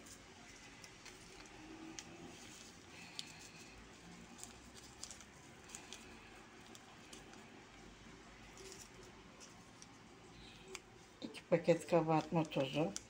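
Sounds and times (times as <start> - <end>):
paper rustling: 0.0 - 11.1
light ticks of paper sachets: 0.0 - 13.0.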